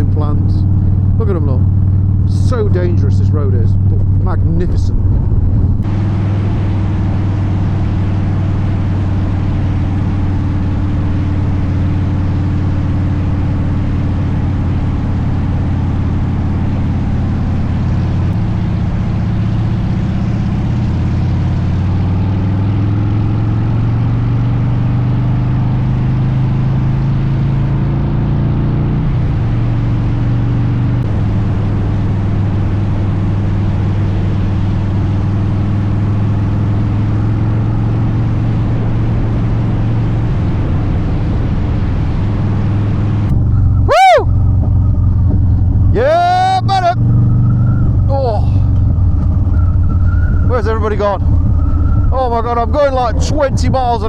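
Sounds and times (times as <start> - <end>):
motorcycle engine cruising: 0.0 - 54.0
road and wind noise: 0.0 - 54.0.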